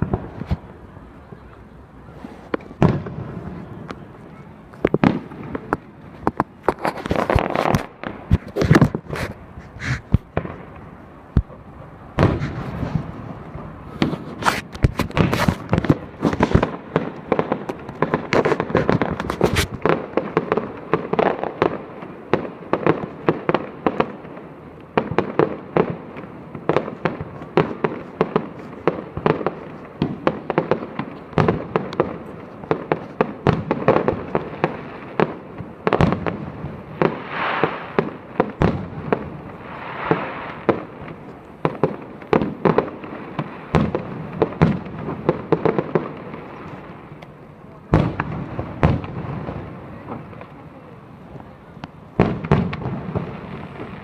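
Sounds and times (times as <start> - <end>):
fireworks bangs and booms: 0.0 - 54.0
hissing crackle: 0.0 - 54.0.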